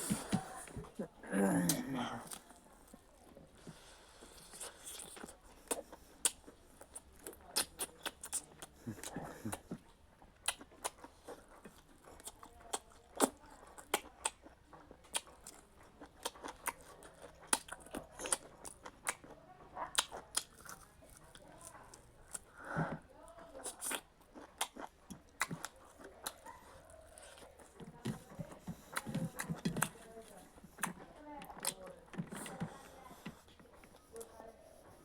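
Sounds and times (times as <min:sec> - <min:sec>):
person chewing crunchy food: 0:00.0 - 0:35.0.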